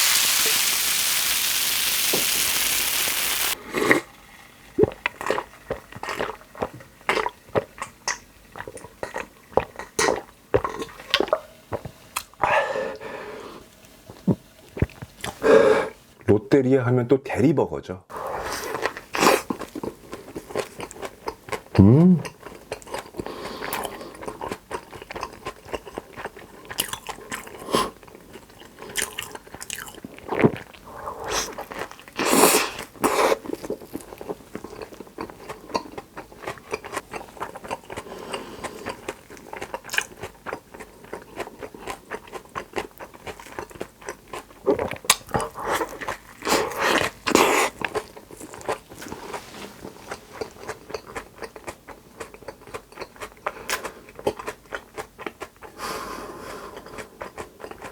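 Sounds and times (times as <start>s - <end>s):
person chewing and crunching: 4.8s - 13.0s, 14.1s - 15.5s, 18.2s - 57.9s.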